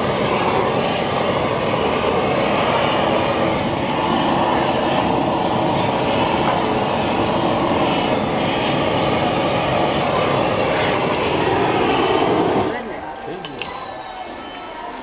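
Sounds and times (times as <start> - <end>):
gas burner flame rushing: 0.0 - 13.7.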